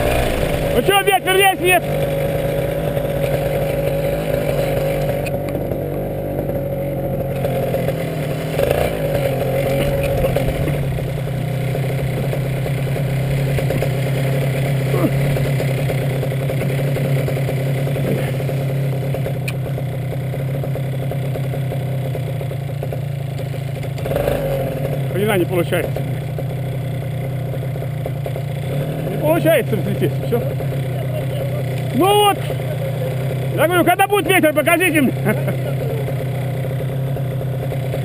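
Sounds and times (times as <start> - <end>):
paramotor engine and propeller: 0.0 - 38.0.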